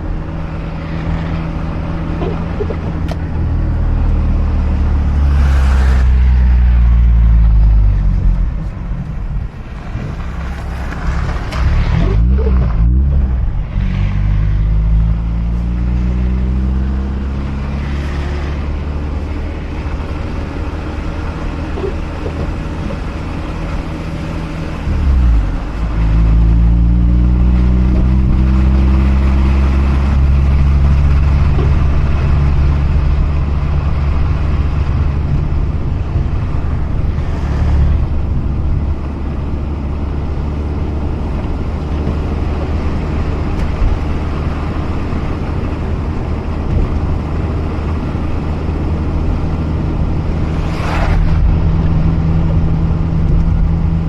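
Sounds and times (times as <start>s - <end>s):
rotary car engine running: 0.0s - 54.0s.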